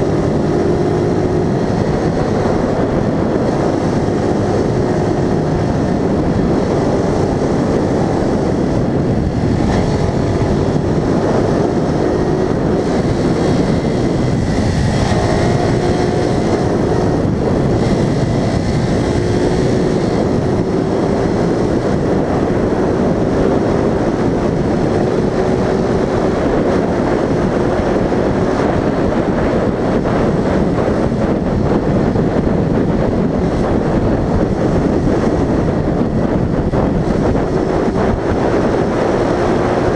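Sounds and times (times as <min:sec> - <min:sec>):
road and wind noise: 0:00.0 - 0:39.9
vehicle engine tone: 0:00.0 - 0:39.9.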